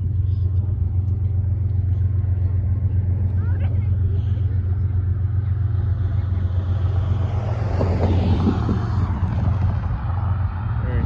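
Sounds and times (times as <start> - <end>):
diesel freight train rumble: 0.0 - 11.0.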